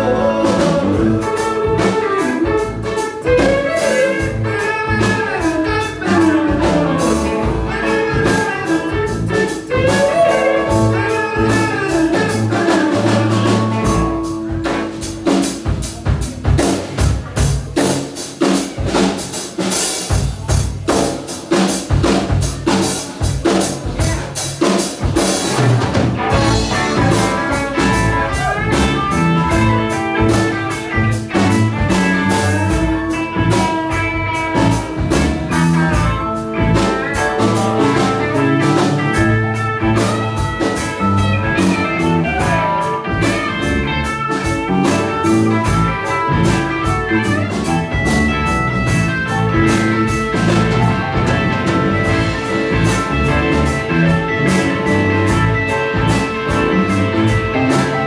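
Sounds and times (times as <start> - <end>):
blues-rock band playing: 0.0 - 58.0
busy drumming: 0.0 - 58.0.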